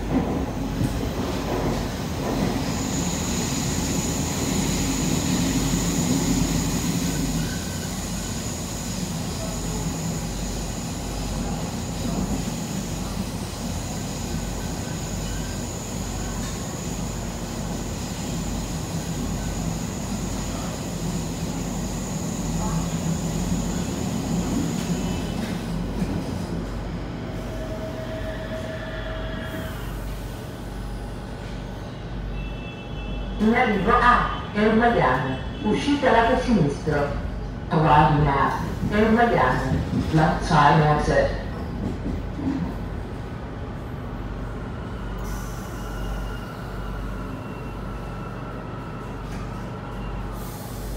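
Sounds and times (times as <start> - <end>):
train wheels rumbling: 0.0 - 30.7, 38.5 - 50.9.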